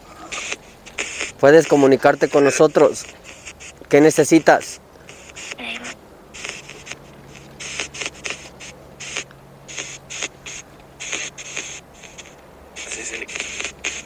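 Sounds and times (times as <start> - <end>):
choppy bursts of hissing static: 0.0 - 14.0.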